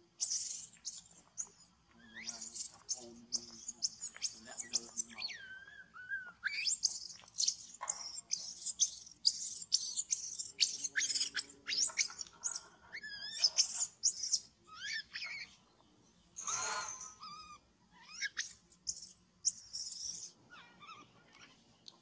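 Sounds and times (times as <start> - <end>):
infant monkey squealing: 0.2 - 15.5, 16.4 - 21.0.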